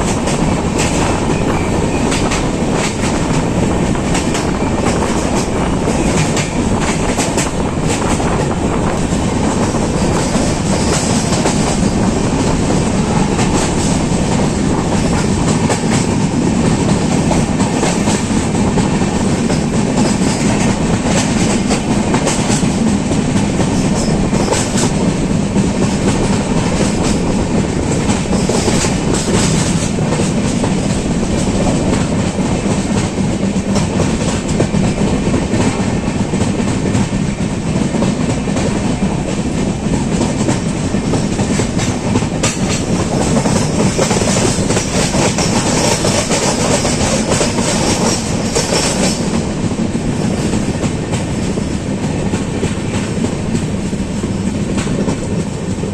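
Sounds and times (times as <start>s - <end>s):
clickety-clack of rail joints: 0.0s - 55.9s
train wheels rumbling on rails: 0.0s - 55.9s.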